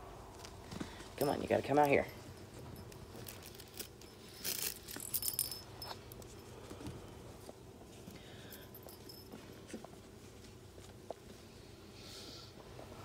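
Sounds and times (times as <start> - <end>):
puppies scuffling and rustling: 0.3 - 11.8.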